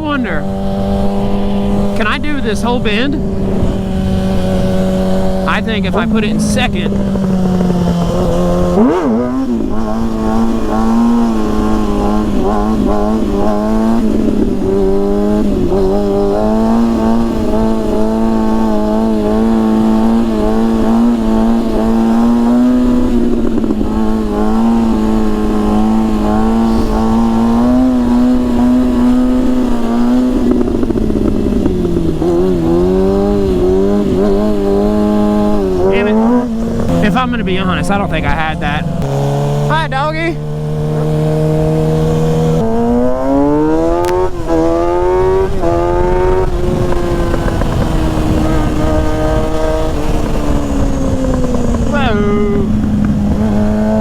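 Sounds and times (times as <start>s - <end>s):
wind rumble on microphone: 0.0s - 39.7s, 40.4s - 54.0s
motorcycle engine revving: 0.0s - 54.0s.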